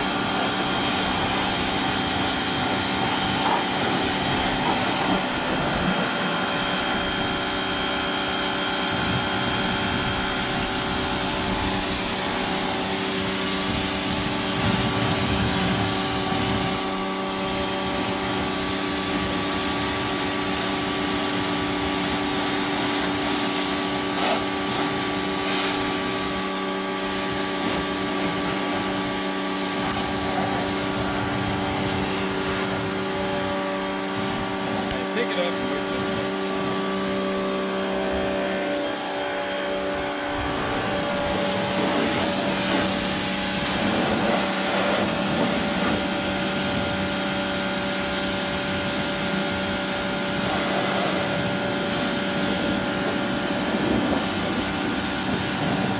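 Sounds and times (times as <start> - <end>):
pressure washer motor humming: 0.0 - 55.9
water jet hissing: 0.0 - 55.9.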